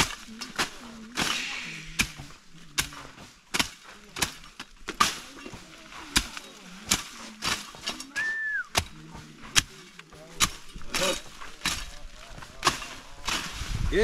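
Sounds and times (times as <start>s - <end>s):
hand tool striking: 0.0s - 13.5s.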